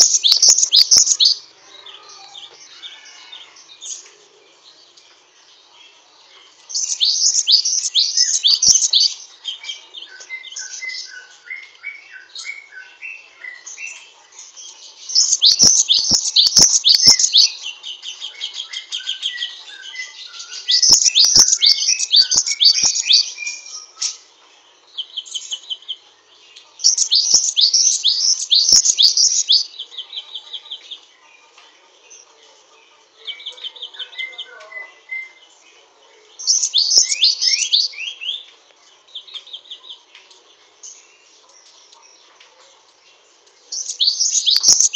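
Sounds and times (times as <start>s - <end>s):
bird song with buzzy trill: 0.0s - 44.9s.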